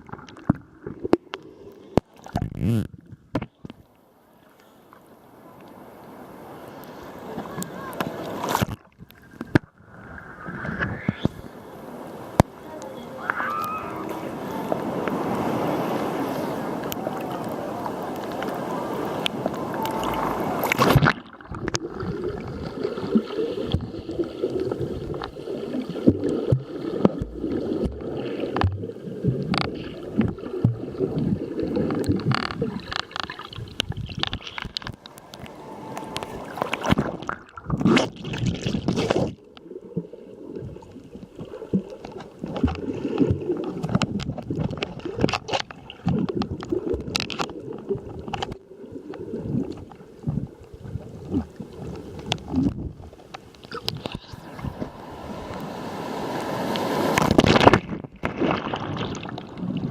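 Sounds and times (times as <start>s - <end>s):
sea waves washing on shore: 4.1s - 59.9s.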